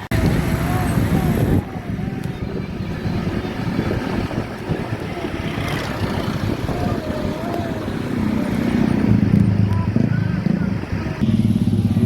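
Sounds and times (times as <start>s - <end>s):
road traffic rumble: 0.0s - 12.0s
wind buffeting microphone: 0.0s - 12.0s.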